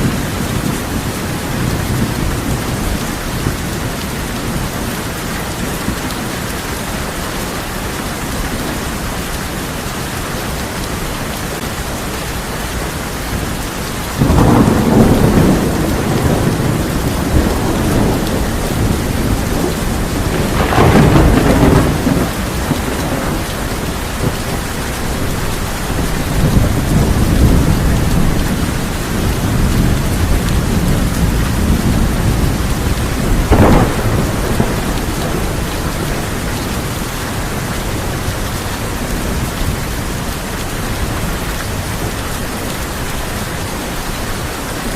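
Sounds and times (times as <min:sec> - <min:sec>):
thunder clap and rumbling: 0:00.0 - 0:06.5, 0:13.3 - 0:43.4
heavy rain on a tin roof: 0:00.0 - 0:44.9.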